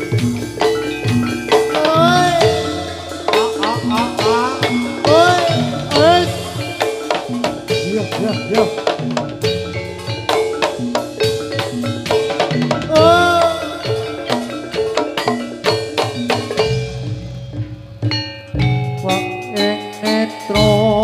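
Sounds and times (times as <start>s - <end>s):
busy drum strokes: 0.0s - 21.0s
metallophones ringing melody: 0.0s - 21.0s.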